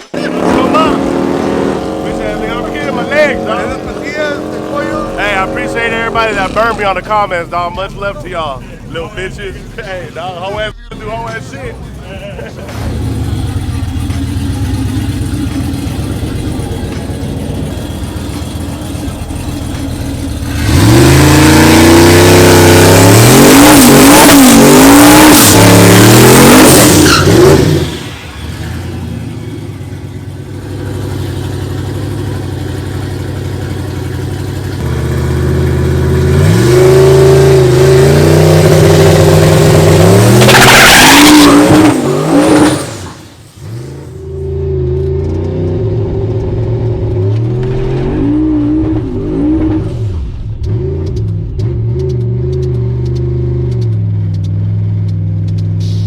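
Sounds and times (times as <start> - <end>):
tires squealing: 0.0 - 54.0
truck engine revving: 0.0 - 56.0.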